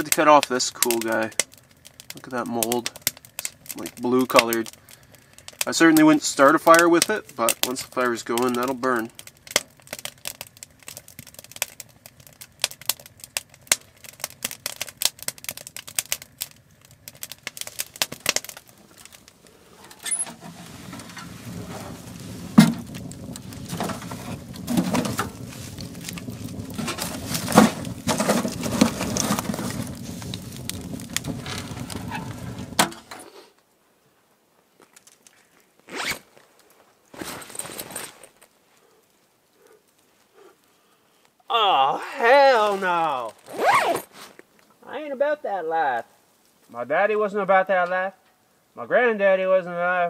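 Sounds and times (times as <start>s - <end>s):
wood fire crackling and popping: 0.0s - 33.8s, 34.4s - 45.0s, 45.8s - 48.8s
low rushing of burning fire: 0.0s - 37.6s, 38.2s - 45.0s, 46.0s - 46.8s.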